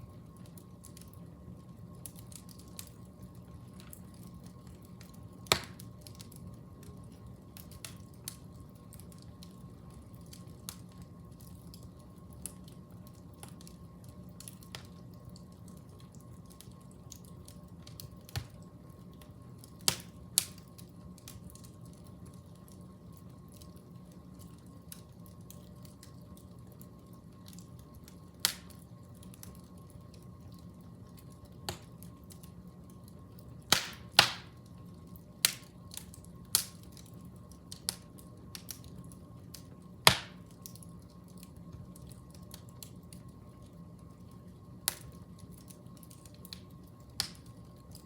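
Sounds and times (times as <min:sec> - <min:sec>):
fire crackling: 0:00.0 - 0:48.0.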